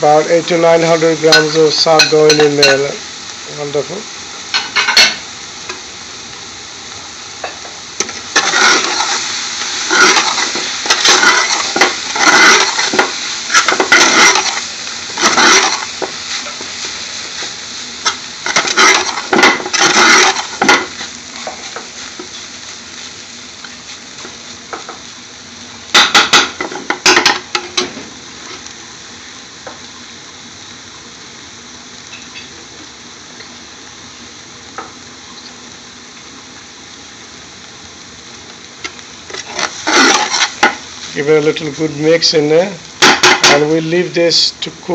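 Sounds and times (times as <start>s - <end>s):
spinach sizzling in hot oil: 0.0s - 44.9s.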